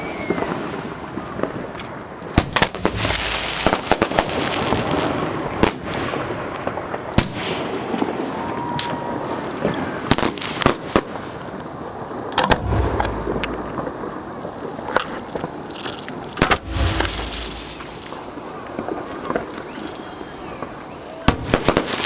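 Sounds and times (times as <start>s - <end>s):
fireworks crackling hiss: 0.0s - 22.0s
fireworks bangs: 0.2s - 11.3s, 12.2s - 19.6s.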